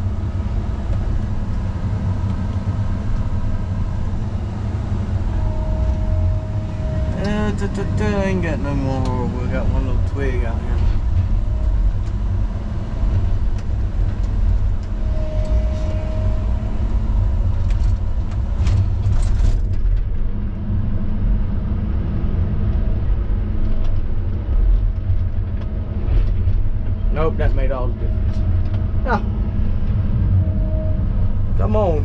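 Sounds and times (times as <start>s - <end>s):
steady squeal: 0.0s - 19.6s, 25.7s - 32.0s
diesel engine rumbling: 0.0s - 32.0s.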